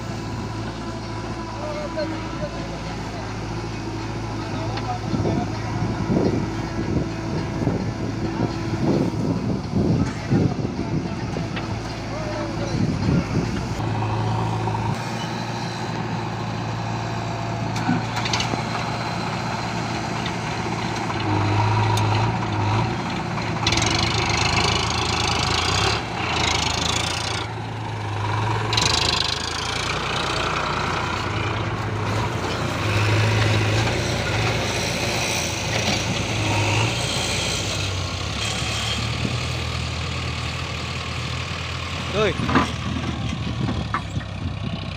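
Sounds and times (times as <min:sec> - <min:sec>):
tractor engine under load: 0:00.0 - 0:44.9.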